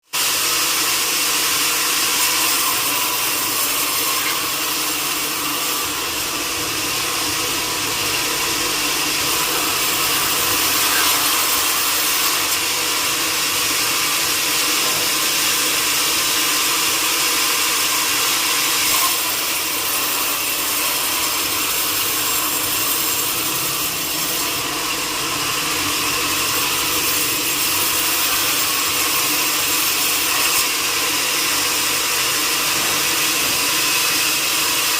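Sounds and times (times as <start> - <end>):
sawmill saw cutting log: 0.2 - 34.9.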